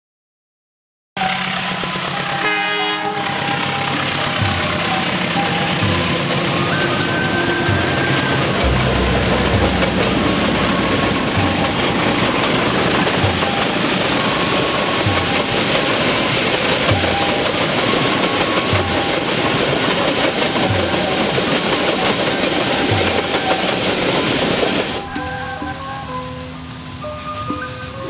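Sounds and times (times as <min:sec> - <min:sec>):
train rail rumble: 0:01.2 - 0:28.0.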